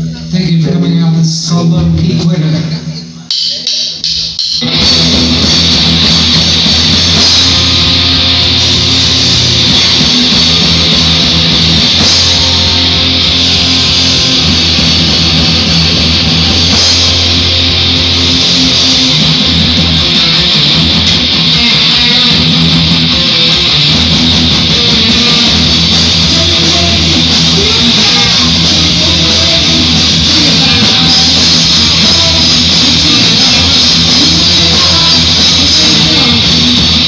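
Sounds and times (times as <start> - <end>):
live heavy rock band: 0.0 - 37.0.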